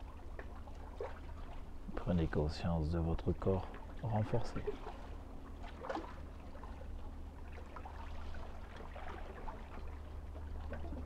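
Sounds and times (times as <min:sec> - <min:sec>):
low steady hum: 0:00.0 - 0:11.0
sea water lapping against shore: 0:00.0 - 0:11.0.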